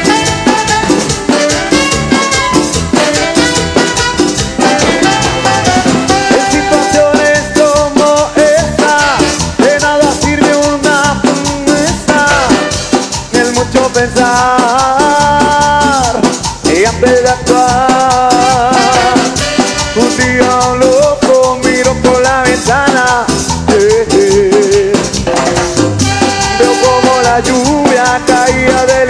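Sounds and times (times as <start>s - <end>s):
live latin dance band: 0.0s - 29.0s.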